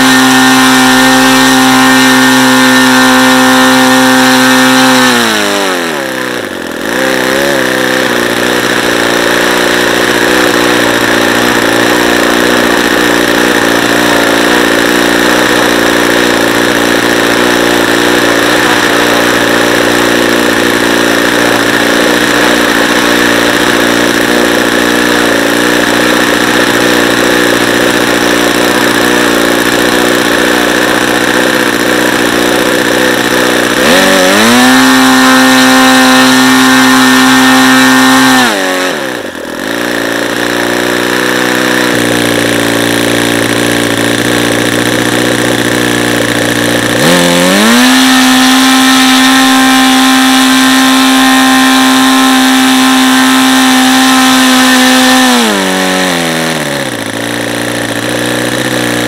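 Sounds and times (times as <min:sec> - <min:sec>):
model aircraft engine: 0:00.0 - 0:59.0.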